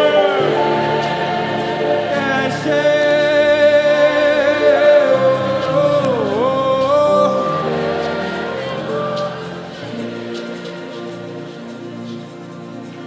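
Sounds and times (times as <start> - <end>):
sustained accompaniment: 0.0 - 13.0
voices holding long notes: 0.0 - 13.0.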